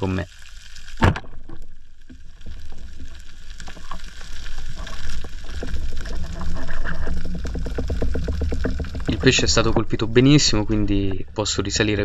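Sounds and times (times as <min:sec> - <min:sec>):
underwater rush of water: 0:00.0 - 0:12.0
underwater clicks and knocks: 0:01.0 - 0:12.0.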